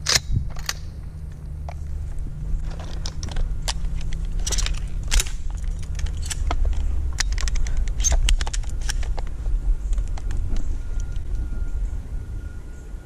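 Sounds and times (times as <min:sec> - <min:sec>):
gear clinking and rattling: 0:00.0 - 0:11.8
steady low rumble: 0:00.0 - 0:13.0.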